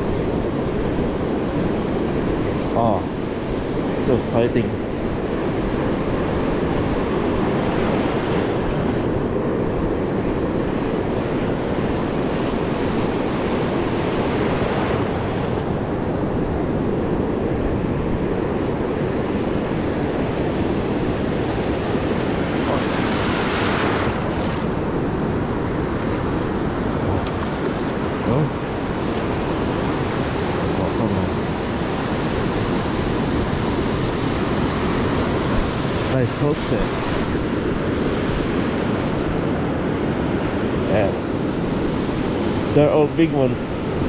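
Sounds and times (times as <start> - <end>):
ocean surf breaking: 0.0 - 44.0
wind on microphone: 0.0 - 44.0.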